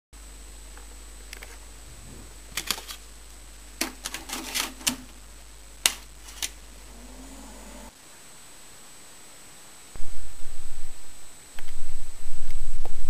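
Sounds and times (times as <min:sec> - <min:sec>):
computer hum: 0:00.2 - 0:13.0.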